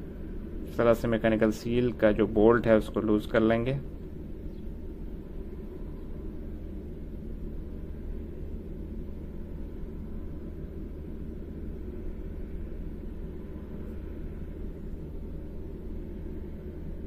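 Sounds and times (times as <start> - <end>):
industrial machinery rumble and hum: 0.0 - 17.0.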